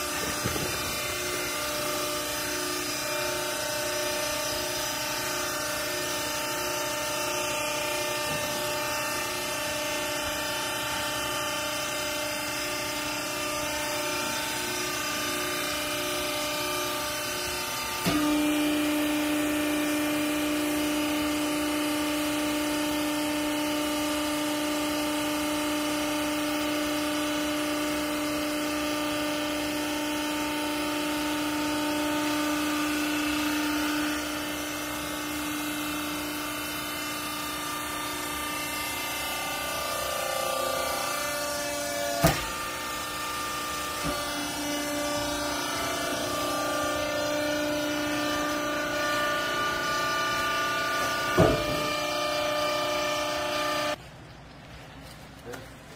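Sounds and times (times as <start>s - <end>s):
hydraulic power unit humming: 0.0s - 55.9s.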